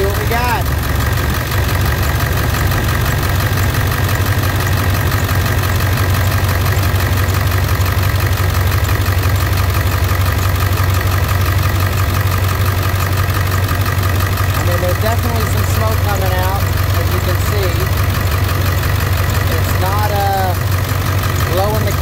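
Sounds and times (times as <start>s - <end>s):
diesel engine idling: 0.0s - 22.0s
high engine whine: 0.0s - 22.0s.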